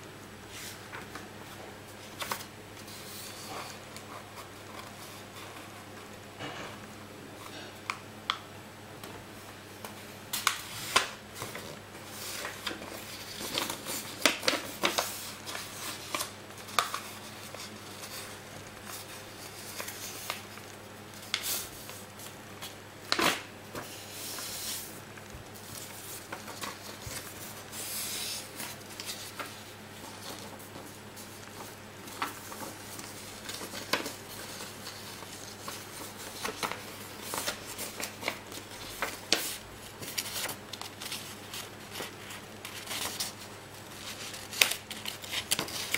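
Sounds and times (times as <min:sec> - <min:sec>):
paper folding and crinkling: 0:00.5 - 0:06.6, 0:09.3 - 0:45.9.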